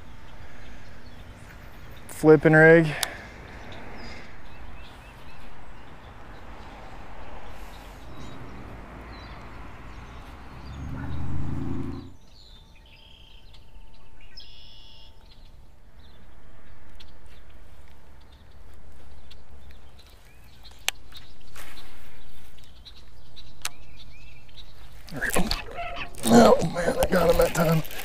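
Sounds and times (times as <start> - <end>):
outdoor background noise: 0.0 - 28.0
small birds chirping: 0.0 - 28.0.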